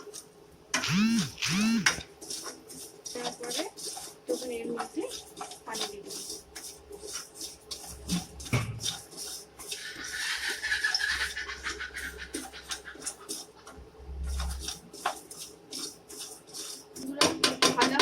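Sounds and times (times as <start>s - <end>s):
spatula scraping a pan: 2.0s - 18.0s.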